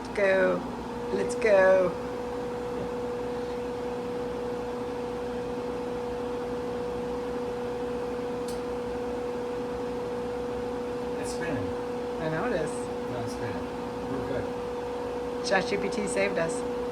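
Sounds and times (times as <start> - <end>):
washing machine spinning: 0.0 - 16.9.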